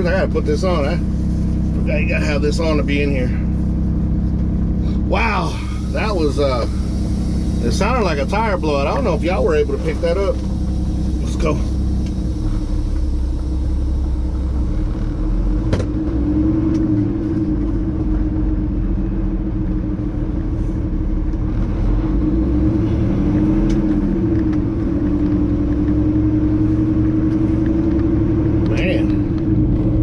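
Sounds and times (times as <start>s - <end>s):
truck diesel engine driving off: 0.0s - 30.0s.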